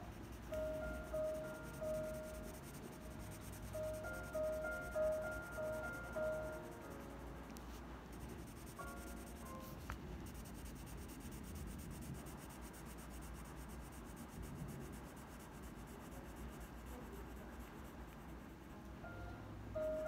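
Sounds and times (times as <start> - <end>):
pencil rubbing on paper: 0.0 - 18.5.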